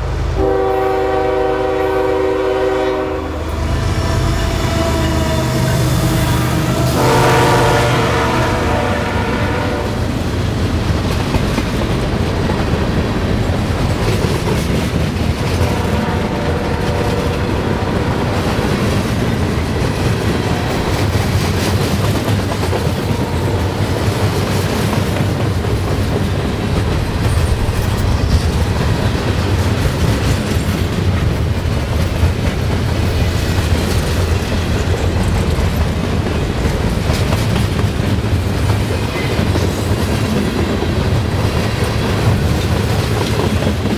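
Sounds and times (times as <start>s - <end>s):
freight train cars rumbling: 0.0s - 43.9s
wheels clacking over rail joints: 8.2s - 43.9s.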